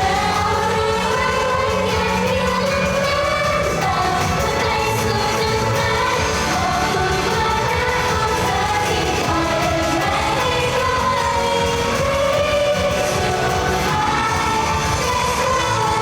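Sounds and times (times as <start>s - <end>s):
person singing: 0.0s - 16.0s
pop song over pa system: 0.0s - 16.0s.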